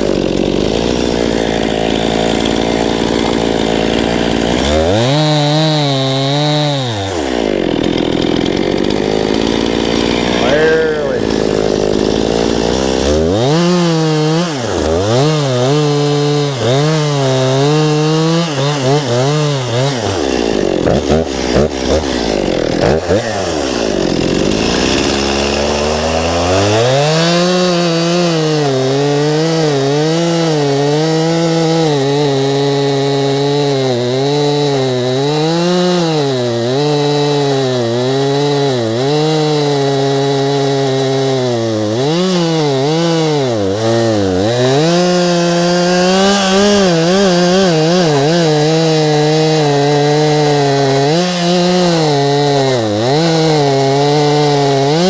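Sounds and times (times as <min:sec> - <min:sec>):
chainsaw cutting wood: 0:00.0 - 0:55.0
wood cracking: 0:00.0 - 0:55.0.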